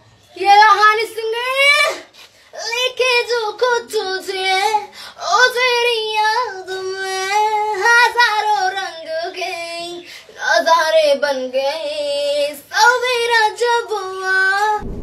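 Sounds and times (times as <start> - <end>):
woman singing in a high voice: 0.3 - 14.8.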